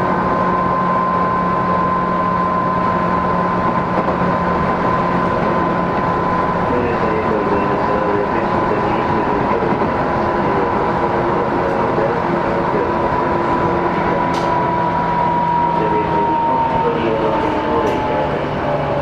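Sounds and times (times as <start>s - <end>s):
electric train rumble and whine: 0.0s - 19.0s.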